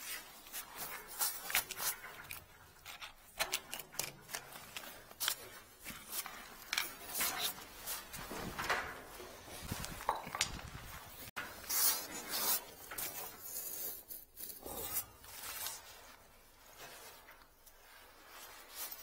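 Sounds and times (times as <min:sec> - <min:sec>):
clothing rustling and scraping: 0:00.0 - 0:03.4, 0:04.0 - 0:19.0.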